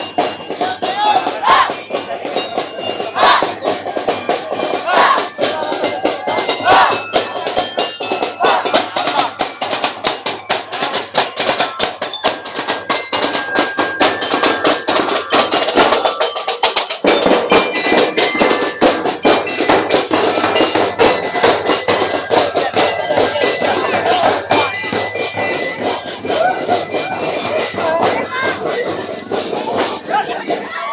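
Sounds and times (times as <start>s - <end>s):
fast driving drum rhythm: 0.0s - 30.9s.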